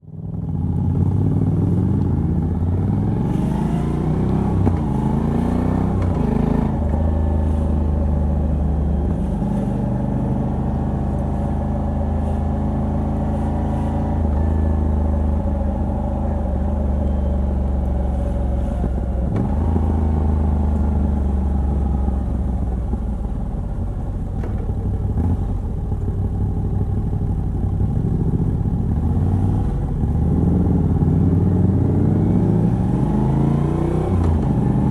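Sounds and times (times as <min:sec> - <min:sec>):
motorcycle engine revving and cruising: 0:00.0 - 0:34.9.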